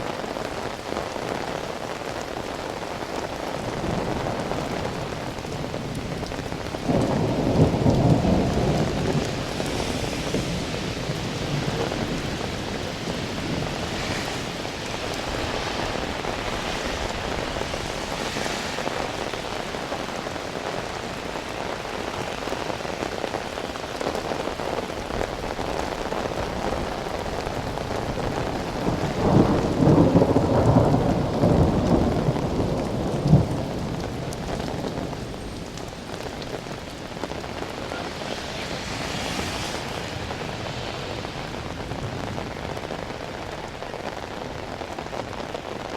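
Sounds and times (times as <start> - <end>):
steady rain: 0.0 - 45.9
thunder rumbling: 0.1 - 45.9.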